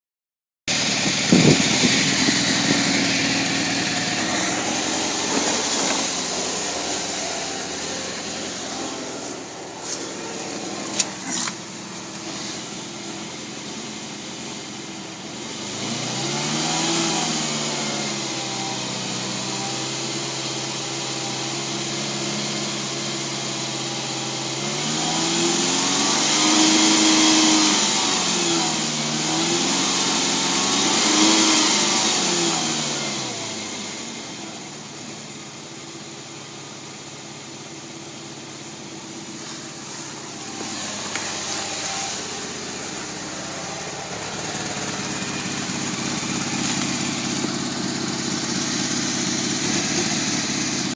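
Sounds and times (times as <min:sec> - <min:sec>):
car engine idling and revving: 0:00.7 - 0:50.9.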